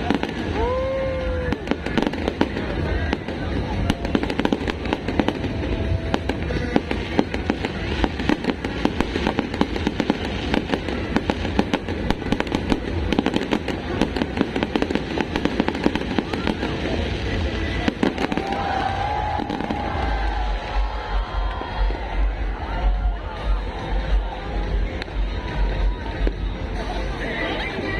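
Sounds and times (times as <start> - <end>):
fireworks bangs and crackles: 0.0 - 27.9
music: 0.0 - 27.9
voices: 0.0 - 27.9.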